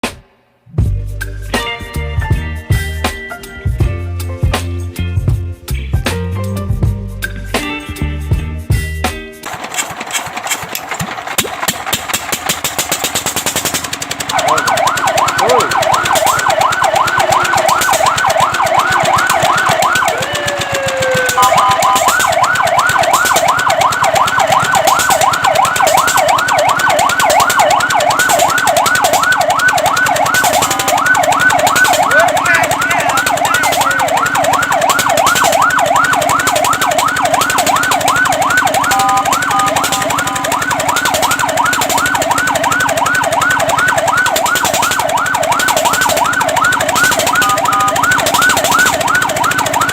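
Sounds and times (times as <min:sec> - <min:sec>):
fire truck siren yelping: 0:09.4 - 0:49.9.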